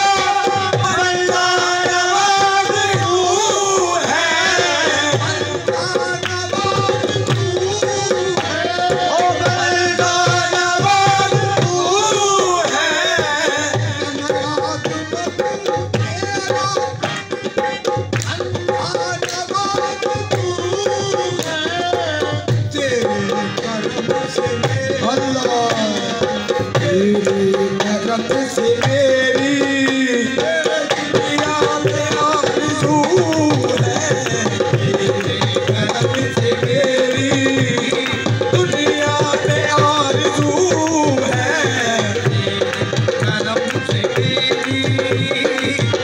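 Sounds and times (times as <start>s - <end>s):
tabla drumming: 0.0s - 46.0s.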